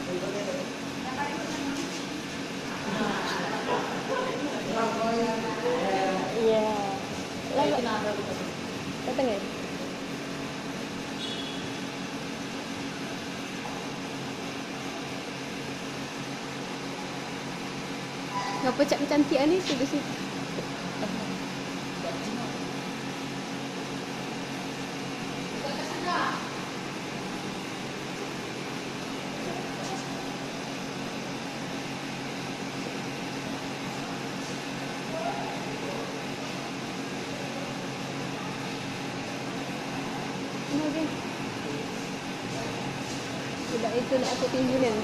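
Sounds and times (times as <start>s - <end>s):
steady low hum with hiss: 0.0s - 45.0s.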